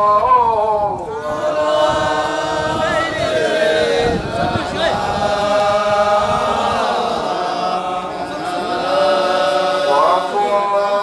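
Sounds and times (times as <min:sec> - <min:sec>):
voices chanting together: 0:00.0 - 0:11.0.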